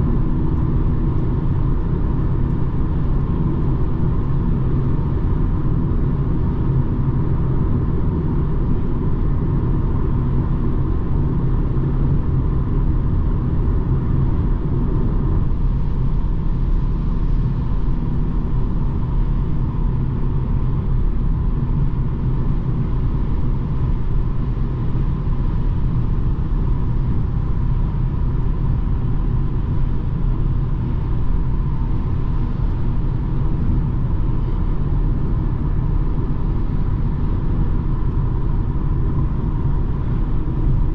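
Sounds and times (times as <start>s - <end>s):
car engine rumble: 0.0s - 40.9s.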